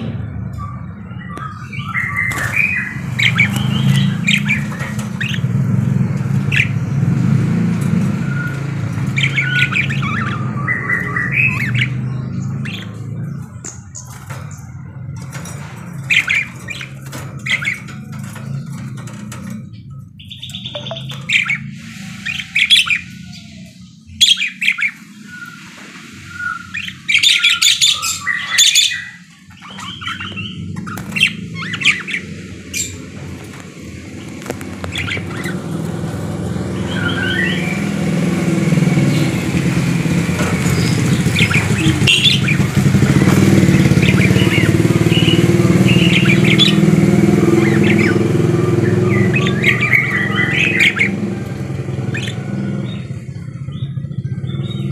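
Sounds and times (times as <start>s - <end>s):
budgerigar chirping and squawking: 0.6s - 6.8s, 8.2s - 33.5s, 34.1s - 38.4s, 39.0s - 51.3s, 52.0s - 54.9s.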